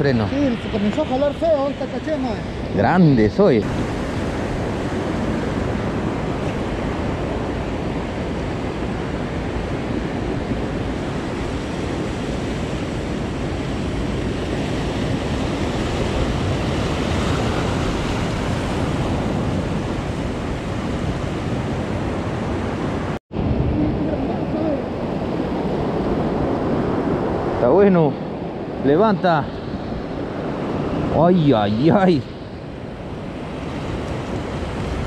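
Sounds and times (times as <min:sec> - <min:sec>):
sea surf washing against rocks: 0:00.0 - 0:35.0.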